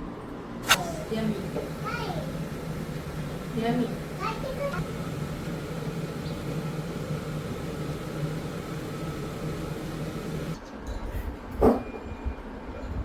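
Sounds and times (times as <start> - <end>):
mechanical hum: 0.0 - 10.6.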